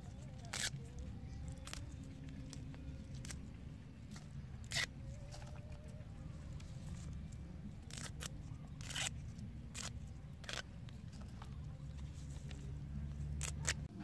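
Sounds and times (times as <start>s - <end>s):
herb leaves snapping and rustling: 0.0s - 13.9s
low steady rumble: 0.0s - 14.0s.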